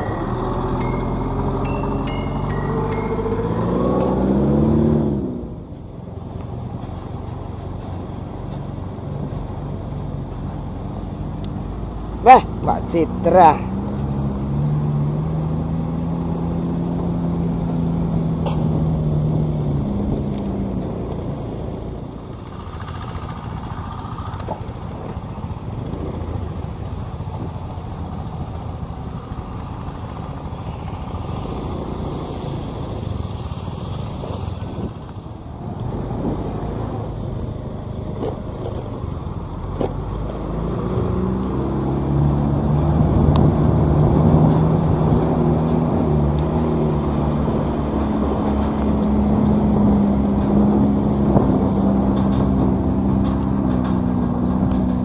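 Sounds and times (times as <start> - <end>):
road rumble: 0.0 - 55.0
steady engine hum: 0.0 - 55.0
vehicle engine drone: 0.0 - 55.0.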